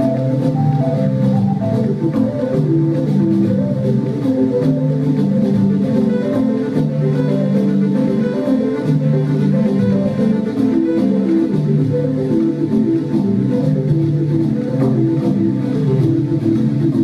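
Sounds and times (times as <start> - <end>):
live instrumental music: 0.0 - 17.0.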